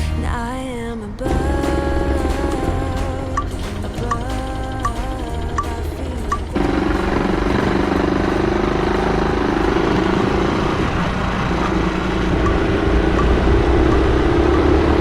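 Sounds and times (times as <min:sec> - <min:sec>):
noisy rush: 0:00.0 - 0:15.0
motorcycle engine running: 0:01.3 - 0:15.0.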